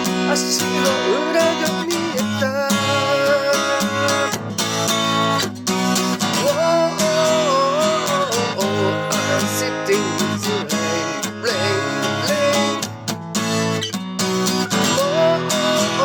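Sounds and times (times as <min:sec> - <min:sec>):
bending lead guitar melody: 0:00.0 - 0:16.0
strummed acoustic guitar chords: 0:00.0 - 0:16.0.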